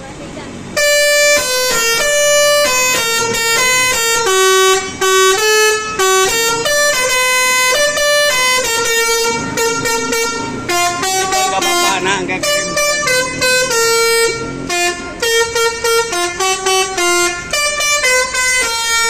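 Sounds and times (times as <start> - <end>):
musical air horn tune: 0.8 - 19.0.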